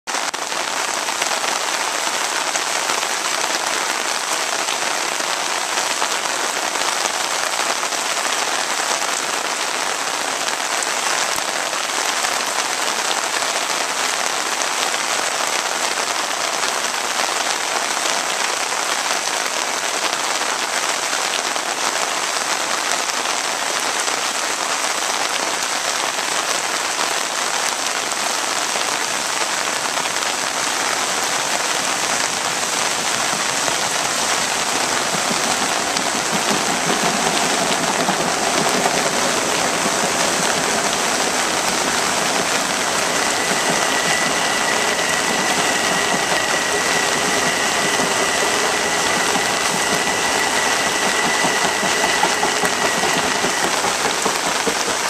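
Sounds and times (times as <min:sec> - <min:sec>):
heavy rain on standing water: 0:00.0 - 0:55.0.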